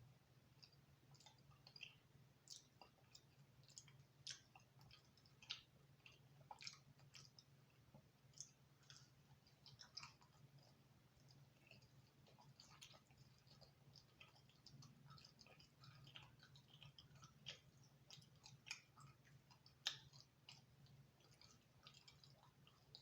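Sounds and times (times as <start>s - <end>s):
chewing food: 0.0s - 23.0s
soft mouth clicks: 0.6s - 7.5s, 8.3s - 23.0s.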